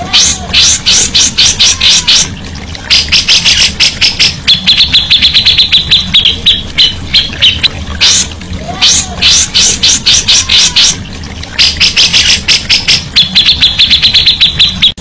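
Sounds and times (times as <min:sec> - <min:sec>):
low steady hum: 0:00.0 - 0:15.0
songbird chattering: 0:00.2 - 0:15.0.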